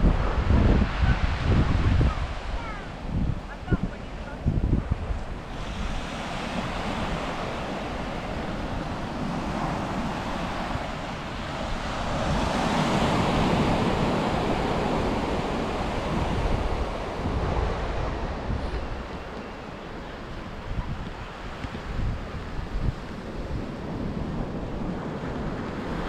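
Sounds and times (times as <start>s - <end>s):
sea waves washing onto beach: 0.0s - 26.0s
wind buffeting microphone: 0.0s - 26.0s.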